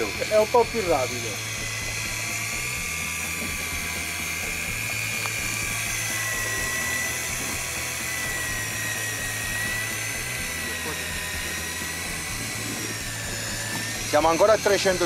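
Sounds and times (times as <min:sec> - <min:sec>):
electric fishing reel whine: 0:00.0 - 0:15.0.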